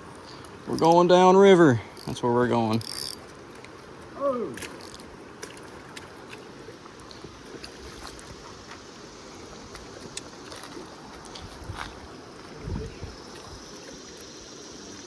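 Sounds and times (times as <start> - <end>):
river water flowing over rocks: 0.0 - 15.0.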